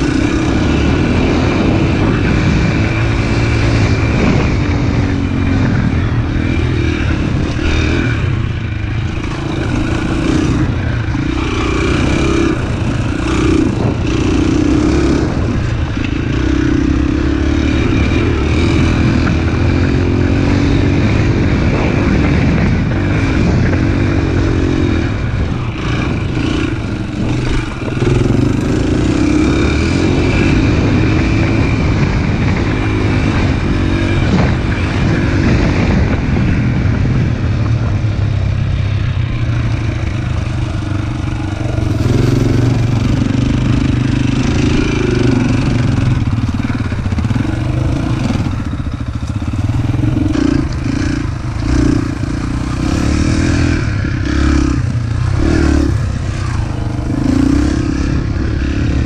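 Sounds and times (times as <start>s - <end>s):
small motorbike engine revving: 0.0s - 59.0s.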